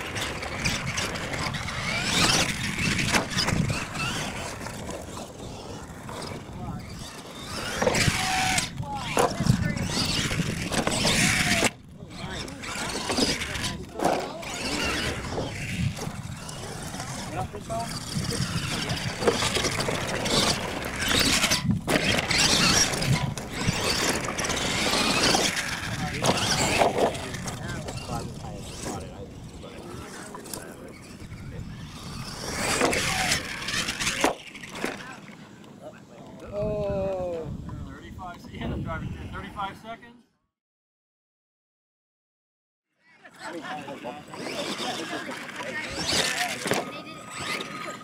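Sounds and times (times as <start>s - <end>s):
tyres scrabbling in dirt: 0.0s - 35.3s, 43.7s - 48.0s
rc truck motor whine: 0.0s - 35.7s, 43.2s - 48.0s.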